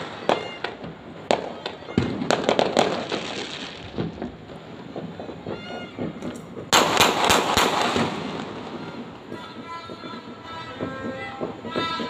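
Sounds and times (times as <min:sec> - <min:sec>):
fireworks and firecrackers bangs: 0:00.0 - 0:12.0.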